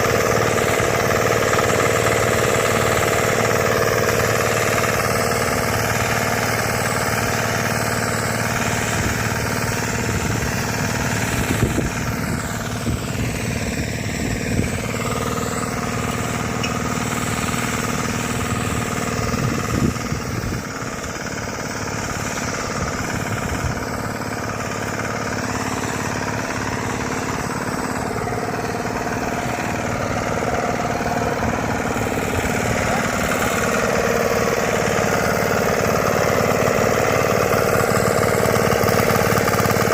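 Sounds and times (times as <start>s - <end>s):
engine knocks: 0.0s - 39.9s
small tractor engine running: 0.0s - 39.9s.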